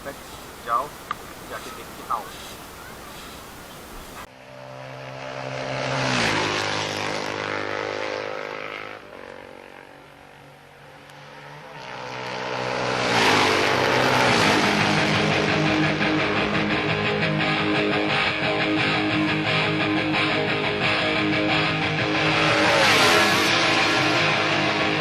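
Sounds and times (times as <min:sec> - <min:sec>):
vehicle passing by: 0:04.2 - 0:25.0.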